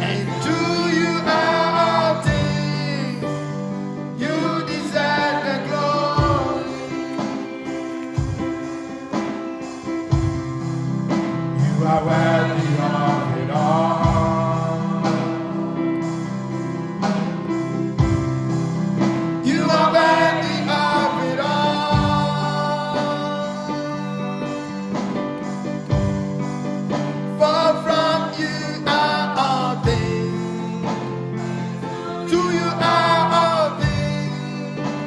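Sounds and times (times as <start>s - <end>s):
gospel singing: 0.0s - 35.0s.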